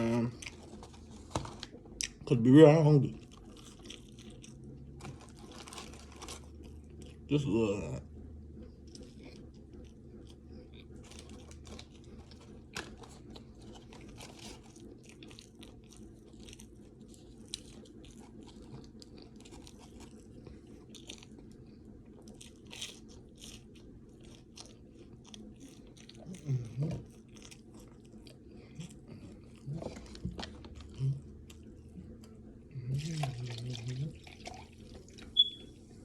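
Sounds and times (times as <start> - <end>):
person chewing food: 0.0 - 7.4, 8.0 - 36.0
low steady hum: 0.0 - 36.0.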